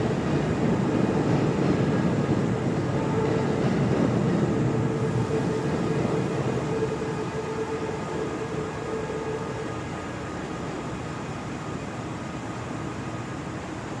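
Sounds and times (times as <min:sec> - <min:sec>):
electric train pulling away: 0:00.0 - 0:13.9
steady train whine: 0:00.0 - 0:14.0.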